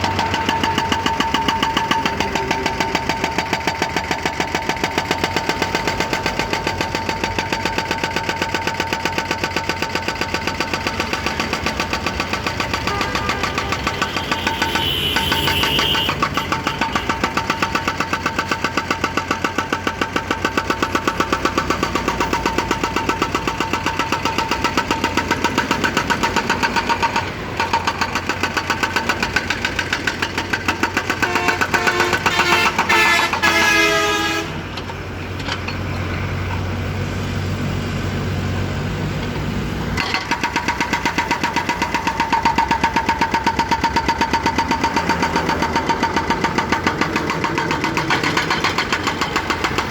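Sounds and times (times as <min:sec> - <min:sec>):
hydraulic breaker hammering: 0:00.0 - 0:34.4, 0:40.0 - 0:49.9
diesel engine running: 0:00.0 - 0:49.9.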